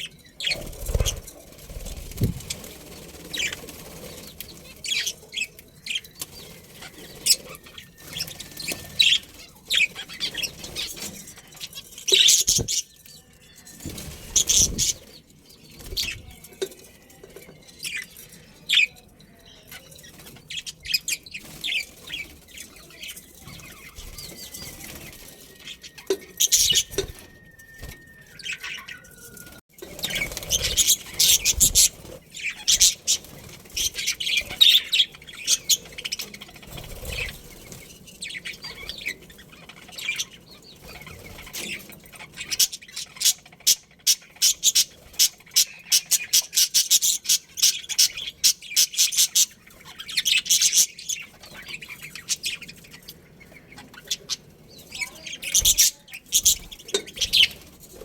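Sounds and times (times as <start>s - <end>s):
budgerigars chirping: 0.0s - 12.9s, 13.9s - 15.2s, 17.8s - 27.2s, 29.9s - 57.8s.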